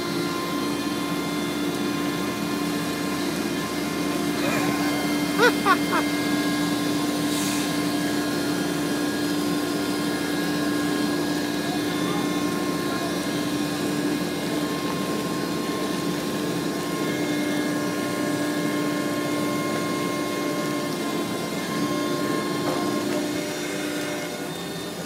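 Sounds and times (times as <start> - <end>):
small boat engine droning: 0.0 - 25.0.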